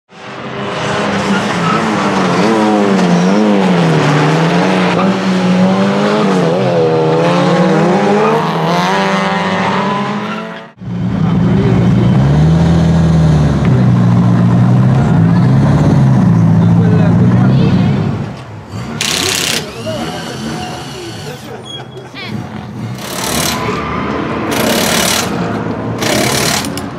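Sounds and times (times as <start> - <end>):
car engine revving hard: 0.6 - 21.5, 22.8 - 26.9.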